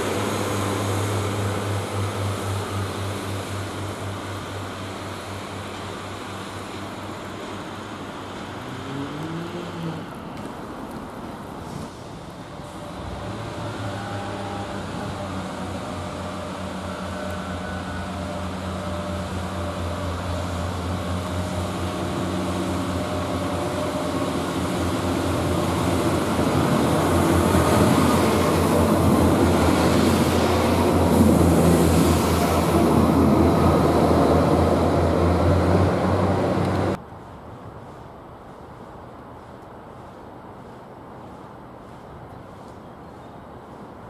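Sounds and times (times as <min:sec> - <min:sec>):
diesel train engine droning: 0:00.0 - 0:37.6.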